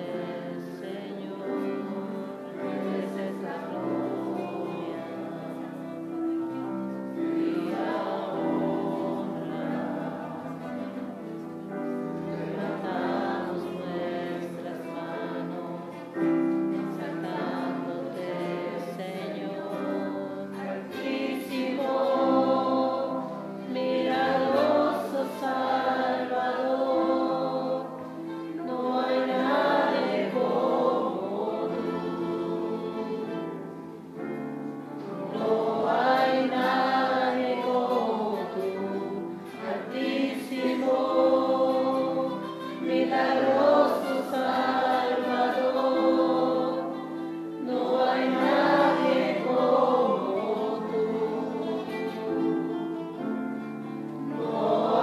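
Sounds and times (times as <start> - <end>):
congregation singing worship song: 0.0 - 55.0.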